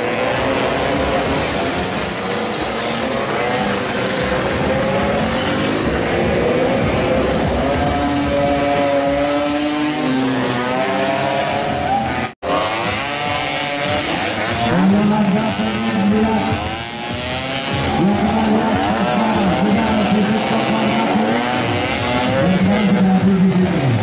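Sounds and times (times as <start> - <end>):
scooter engines revving past: 0.0 - 24.0.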